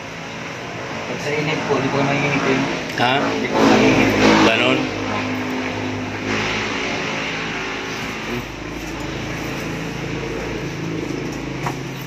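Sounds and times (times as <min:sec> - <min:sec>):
motor-like hum: 0:00.0 - 0:12.0.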